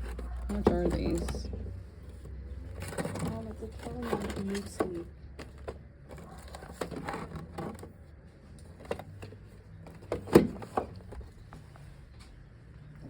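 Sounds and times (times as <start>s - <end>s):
objects being handled: 0.0s - 13.0s.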